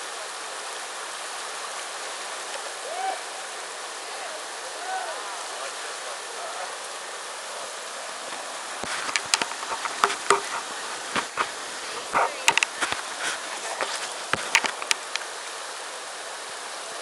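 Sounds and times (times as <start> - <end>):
whitewater rushing: 0.0 - 17.0
paddle splashing water: 0.8 - 15.7.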